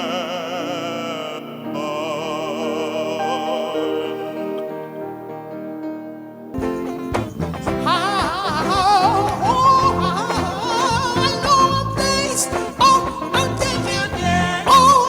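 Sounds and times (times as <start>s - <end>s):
person singing with vibrato: 0.0s - 5.4s, 7.7s - 15.0s
held chord: 0.0s - 15.0s
musical accompaniment: 0.0s - 15.0s.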